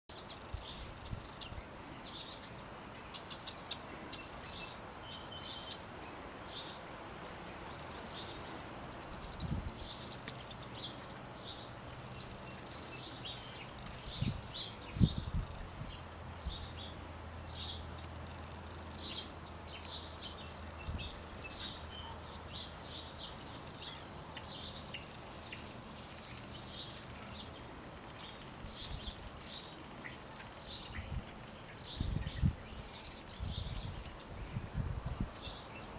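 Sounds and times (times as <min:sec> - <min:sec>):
songbirds chirping: 0:00.1 - 0:35.9.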